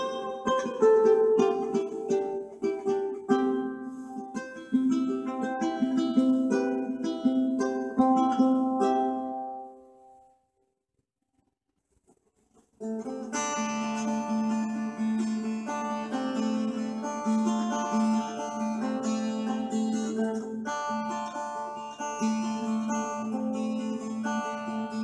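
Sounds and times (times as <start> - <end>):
picked mandolin through amp: 0.0 - 10.1, 12.8 - 25.0.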